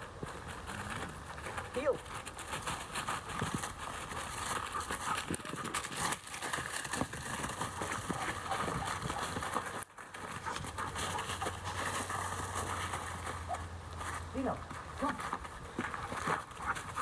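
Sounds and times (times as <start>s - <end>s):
footsteps crunching dry leaves: 0.2s - 17.0s.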